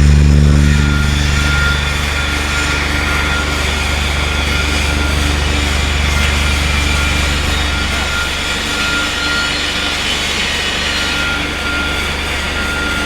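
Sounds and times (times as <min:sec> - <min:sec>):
arc welder humming and crackling: 0:00.0 - 0:13.0.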